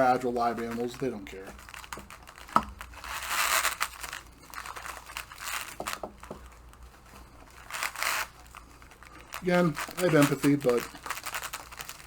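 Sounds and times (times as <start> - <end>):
packing peanuts rustling: 0.0 - 12.0.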